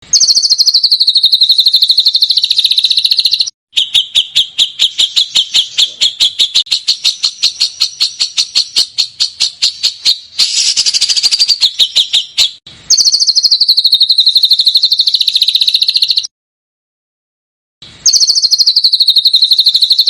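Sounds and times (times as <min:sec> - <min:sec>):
songbird trilling sharp high notes: 0:00.0 - 0:16.3, 0:18.0 - 0:20.0.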